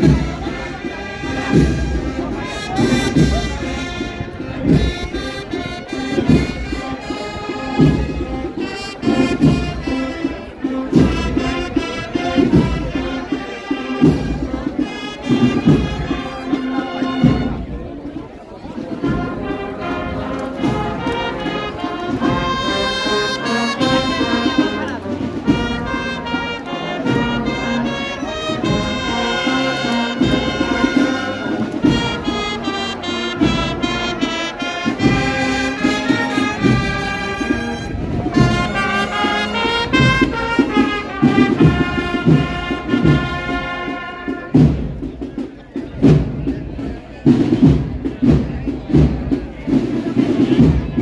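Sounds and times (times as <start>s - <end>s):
brass band playing a march: 0.0s - 51.0s.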